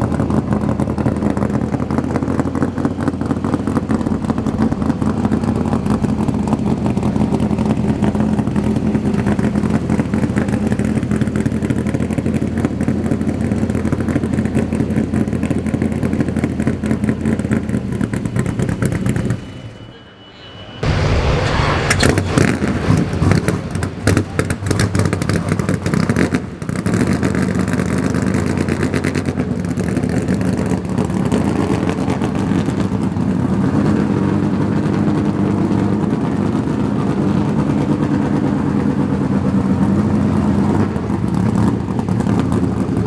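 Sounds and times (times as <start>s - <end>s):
car engine idling: 0.0s - 19.8s, 20.8s - 43.0s.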